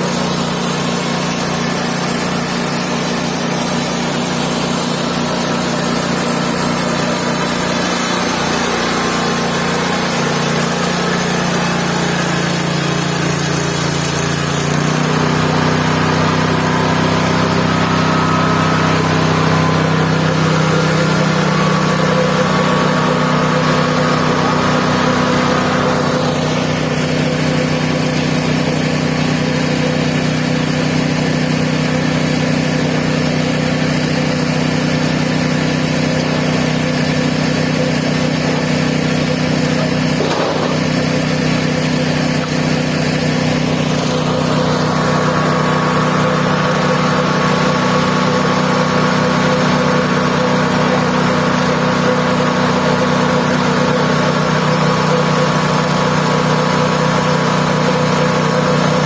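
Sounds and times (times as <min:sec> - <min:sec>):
band sawmill engine running: 0:00.0 - 0:59.0.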